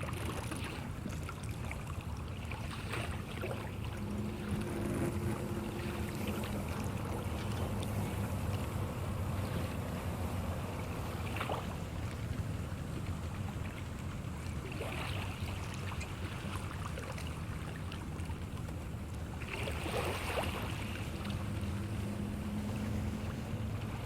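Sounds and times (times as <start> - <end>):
low engine hum: 0.0 - 24.0
water wash: 0.0 - 24.0.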